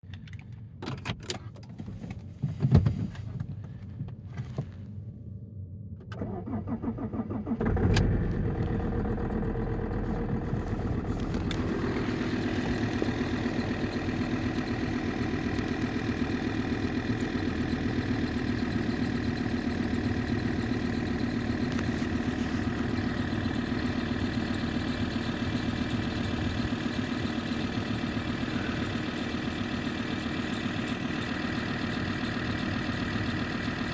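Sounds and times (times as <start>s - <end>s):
diesel engine cranking: 6.0s - 33.9s
engine idling: 6.1s - 33.9s.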